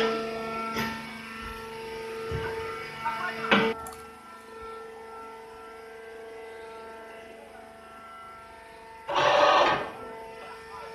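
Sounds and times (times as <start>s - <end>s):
machine hum with whine: 0.0s - 10.9s.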